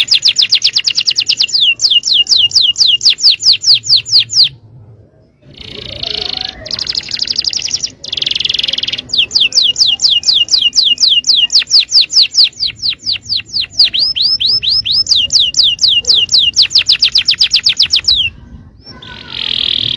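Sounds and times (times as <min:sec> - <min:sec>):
canary singing: 0:00.0 - 0:19.9.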